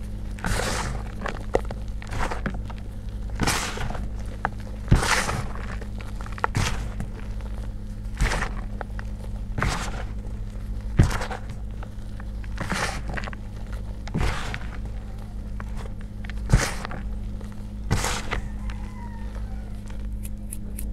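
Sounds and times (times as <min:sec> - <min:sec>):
chalk crumbling and crunching: 0:00.0 - 0:20.1
steady low hum: 0:00.0 - 0:20.9.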